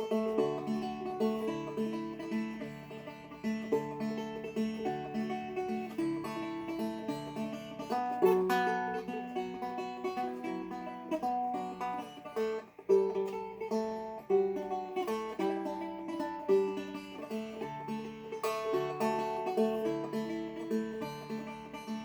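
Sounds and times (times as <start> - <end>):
fingerpicked dulcimer: 0.0 - 22.0.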